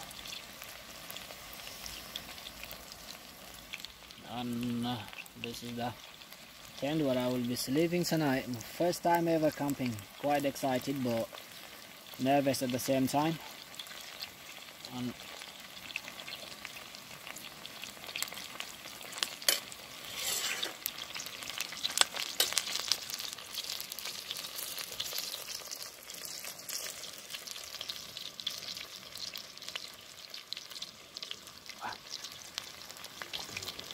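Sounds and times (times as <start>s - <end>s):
curry sizzling in a pot: 0.0s - 33.9s.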